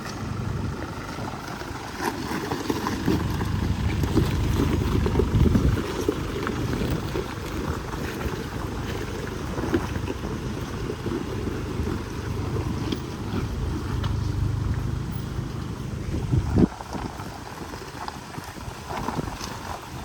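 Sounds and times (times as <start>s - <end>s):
vehicle engine and road rumble: 0.0s - 20.0s
wind buffeting microphone: 0.0s - 20.0s.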